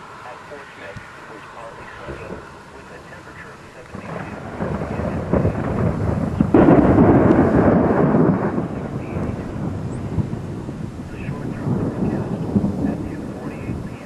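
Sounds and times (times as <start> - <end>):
rolling thunder: 0.0 - 14.0.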